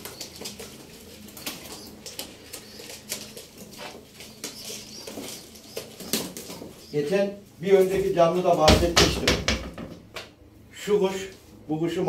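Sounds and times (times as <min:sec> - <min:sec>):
pigeons handled in cages: 0:00.0 - 0:09.8.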